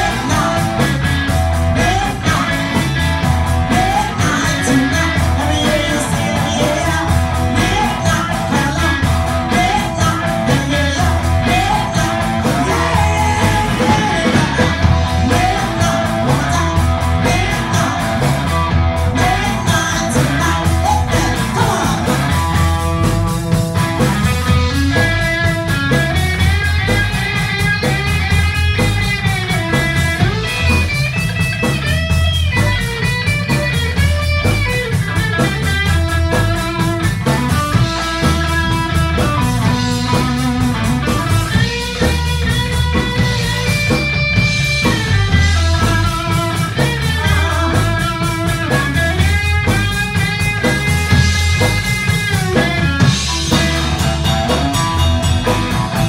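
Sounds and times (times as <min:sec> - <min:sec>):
bass guitar: 0:00.0 - 0:56.0
drum kit beat: 0:00.0 - 0:56.0
electric guitar: 0:00.0 - 0:56.0.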